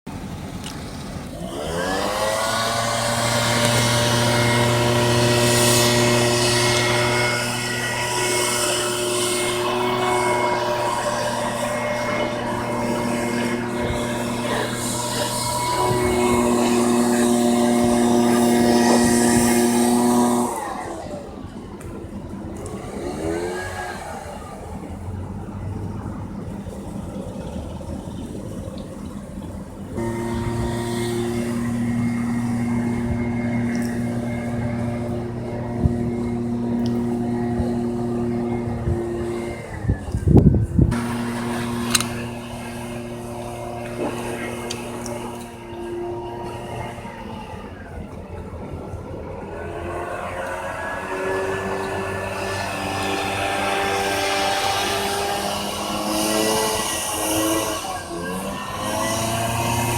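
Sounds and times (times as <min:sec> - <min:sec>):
leaf blower running: 0:00.1 - 0:26.0, 0:29.9 - 0:59.9.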